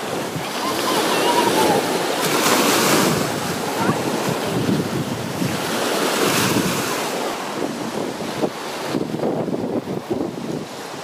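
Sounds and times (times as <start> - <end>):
waves washing on shore: 0.0 - 11.0
wind buffeting microphone: 0.0 - 11.0.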